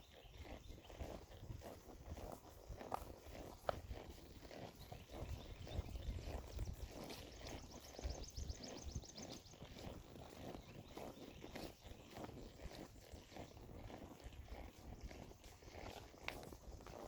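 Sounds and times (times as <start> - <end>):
footsteps outdoors: 0.0 - 17.0.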